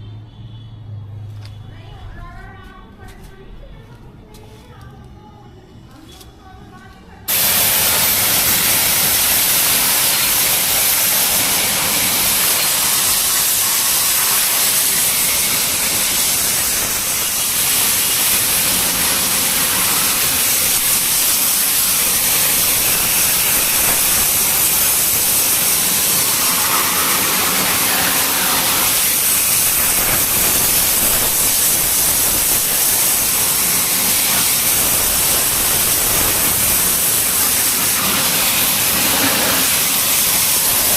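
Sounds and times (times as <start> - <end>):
high-pressure water spray hissing: 7.3 - 40.9.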